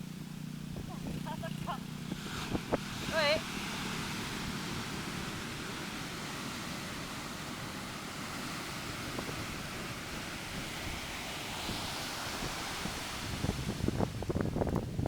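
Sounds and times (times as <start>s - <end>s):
sea surf washing ashore: 0.0s - 15.0s
wind buffeting microphone: 0.4s - 15.0s.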